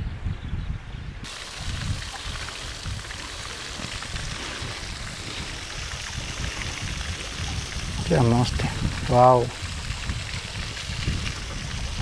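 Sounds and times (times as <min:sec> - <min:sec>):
water rushing over weir: 0:01.3 - 0:12.0.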